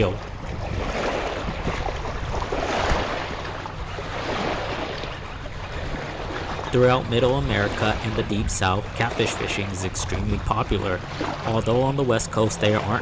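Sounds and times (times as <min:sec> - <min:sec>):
small waves washing ashore: 0:00.0 - 0:13.0
wind buffeting microphone: 0:00.0 - 0:13.0.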